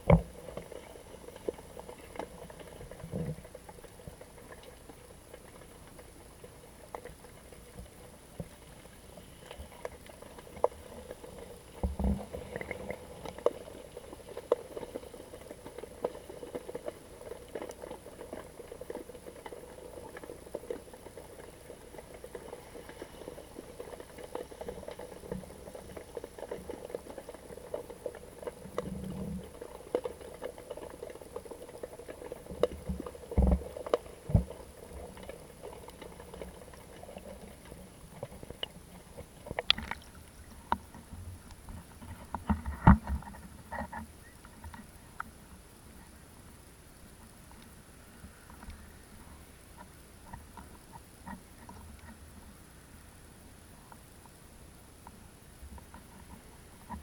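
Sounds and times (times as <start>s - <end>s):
underwater crackle of small clicks: 0.0s - 57.0s.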